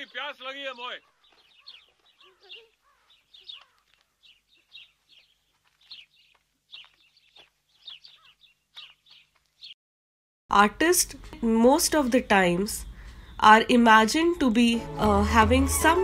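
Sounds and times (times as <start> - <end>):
birds chirping: 0.0 - 9.8, 12.0 - 16.0.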